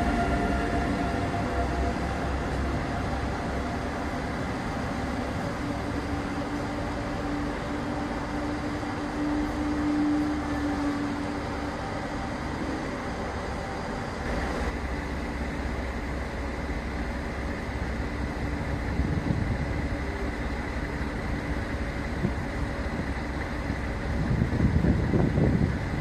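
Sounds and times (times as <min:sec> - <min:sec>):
diesel train approaching: 0:00.0 - 0:26.0
diesel trains rumbling: 0:00.0 - 0:26.0.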